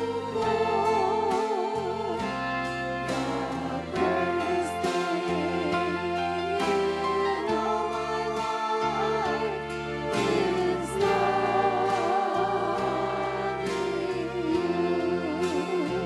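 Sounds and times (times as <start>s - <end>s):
instrumental accompaniment: 0.0s - 16.0s
people singing a hymn: 0.0s - 16.0s.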